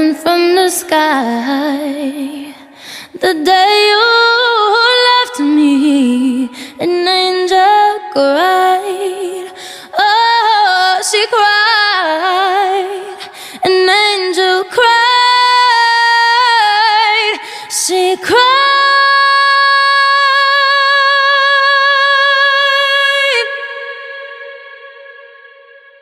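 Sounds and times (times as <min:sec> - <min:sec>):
women singing a cappella harmony: 0:00.0 - 0:25.8.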